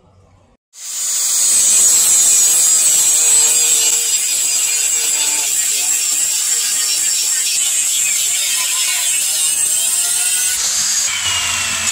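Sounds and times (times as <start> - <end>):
angle grinder cutting steel: 0.8 - 11.9.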